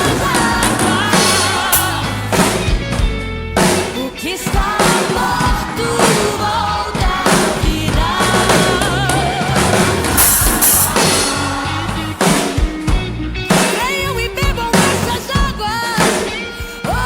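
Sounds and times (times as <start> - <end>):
drum kit playing: 0.0 - 17.0.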